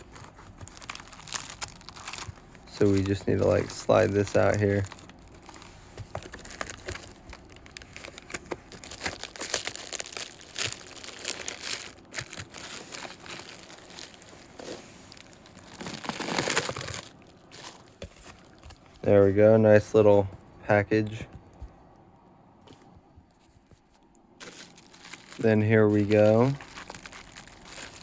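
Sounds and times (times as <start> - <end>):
packaging crinkling: 0.0 - 19.0, 24.4 - 28.0.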